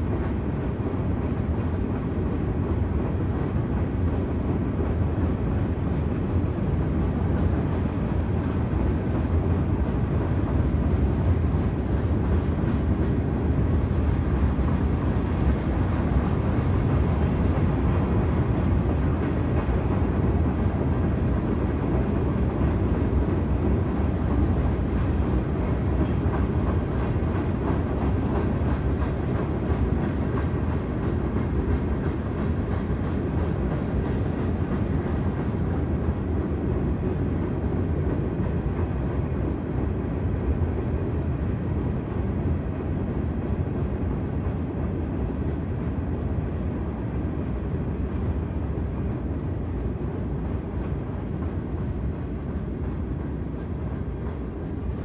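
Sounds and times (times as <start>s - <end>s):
freight cars rolling on rails: 0.0s - 55.0s.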